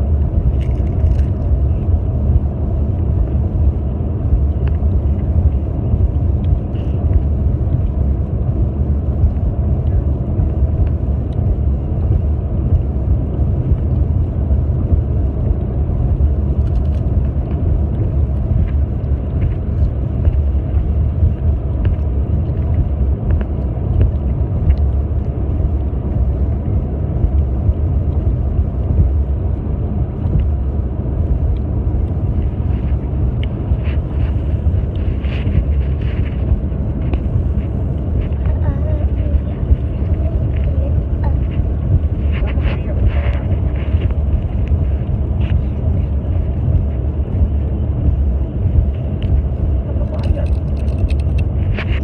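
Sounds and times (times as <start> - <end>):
car cabin road rumble: 0.0 - 52.0.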